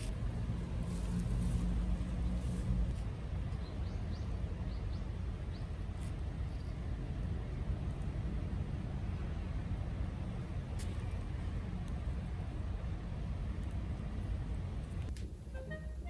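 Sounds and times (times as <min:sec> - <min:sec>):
traffic rumble: 0:00.0 - 0:16.0
vehicle engine hum: 0:00.0 - 0:16.0.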